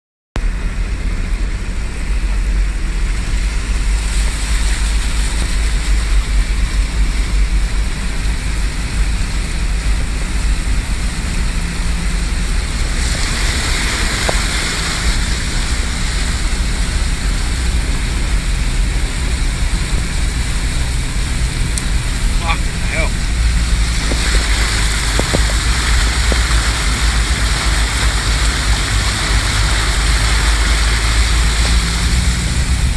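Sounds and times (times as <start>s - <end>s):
floodwater rushing: 1.0s - 32.9s.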